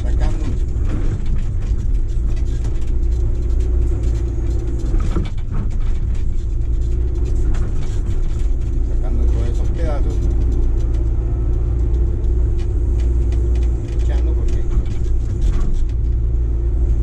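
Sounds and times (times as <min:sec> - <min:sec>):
excavator diesel engine: 0:00.0 - 0:17.0
rocks scraping against bucket: 0:00.0 - 0:17.0.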